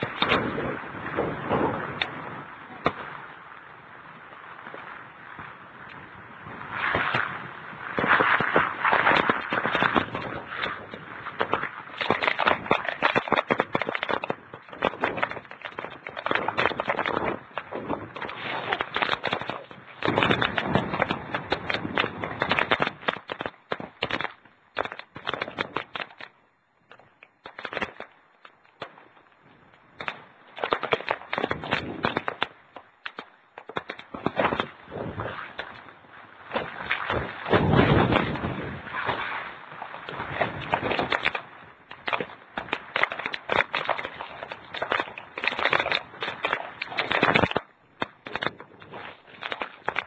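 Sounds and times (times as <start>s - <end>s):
wind and rain on microphone: 0.0s - 50.0s.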